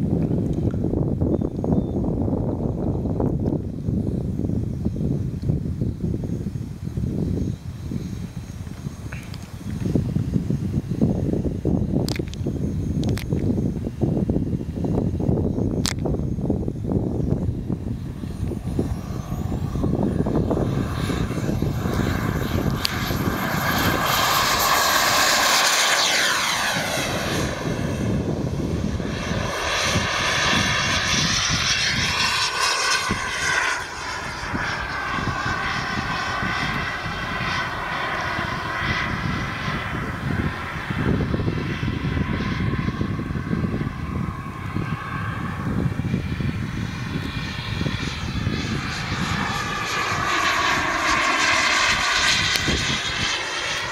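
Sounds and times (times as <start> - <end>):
model jet turbine whining: 0.1 - 53.9.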